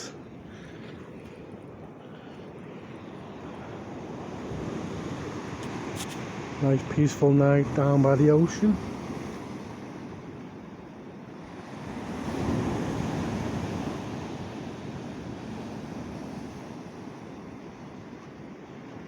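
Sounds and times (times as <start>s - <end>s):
sea waves breaking on shore: 0.0s - 19.0s.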